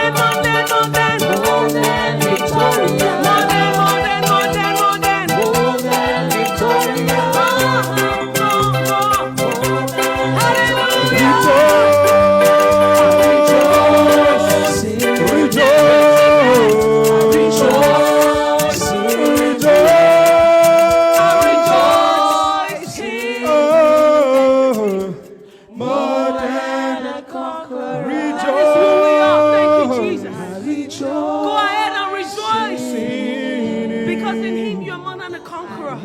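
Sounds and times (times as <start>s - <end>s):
voices singing in harmony: 0.0s - 36.0s.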